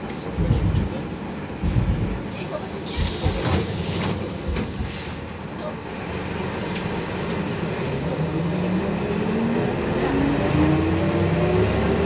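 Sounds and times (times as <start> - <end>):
bus diesel engine accelerating: 0.0 - 12.0.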